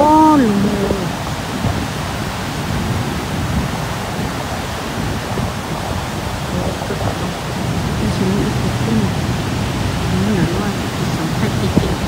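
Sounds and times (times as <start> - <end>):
floodwater rushing over a dam: 0.0 - 12.0.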